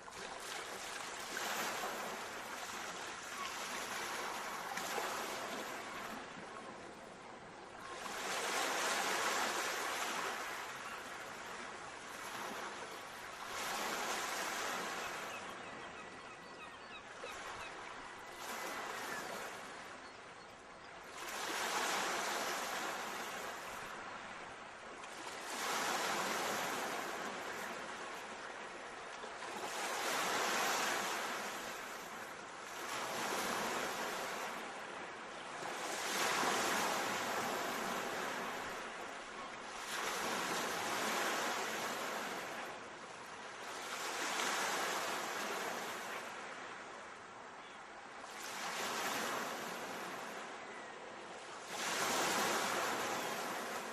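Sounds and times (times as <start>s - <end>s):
sea waves breaking on shore: 0.0s - 47.5s, 48.2s - 53.9s.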